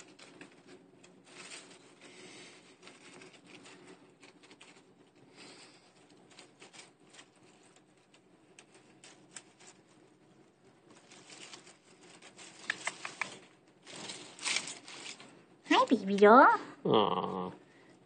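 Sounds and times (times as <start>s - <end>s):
rustling and scratching of leaves: 0.0s - 16.6s.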